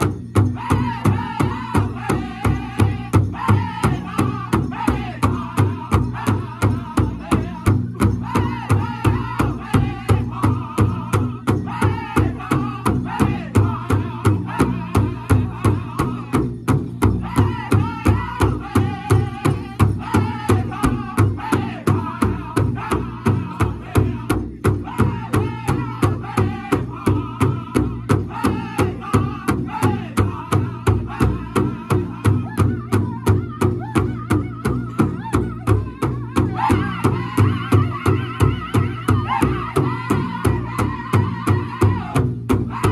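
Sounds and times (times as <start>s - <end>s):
group singing: 0.0s - 42.9s
large hand drum beat: 0.0s - 42.9s.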